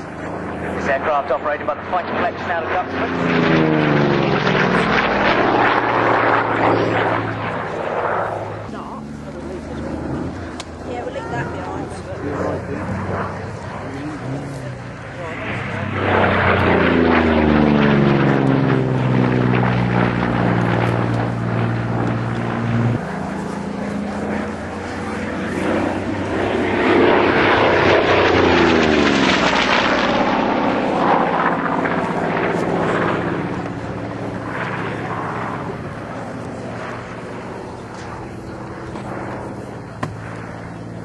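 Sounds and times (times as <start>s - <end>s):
propeller plane engine passing: 0.0s - 41.0s.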